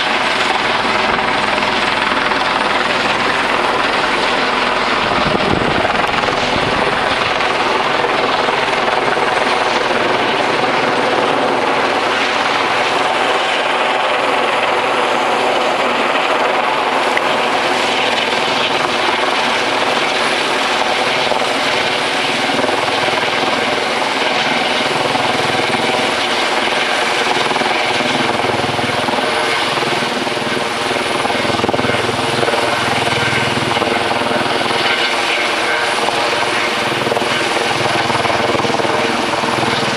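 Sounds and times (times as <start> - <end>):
helicopter hovering overhead: 0.0 - 39.9.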